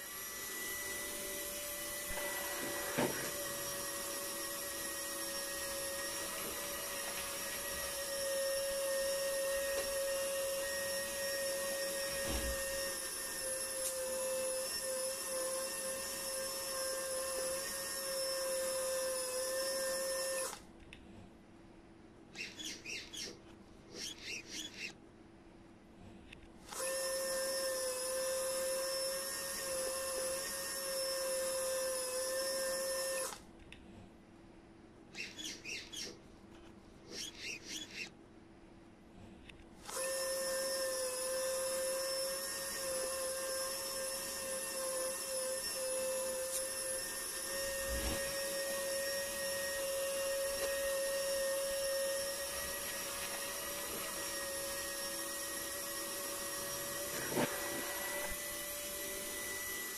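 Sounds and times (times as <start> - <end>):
winch motor and gears whining: 0.0 - 20.7, 22.3 - 25.0, 26.6 - 33.4, 37.1 - 38.2, 39.8 - 59.9.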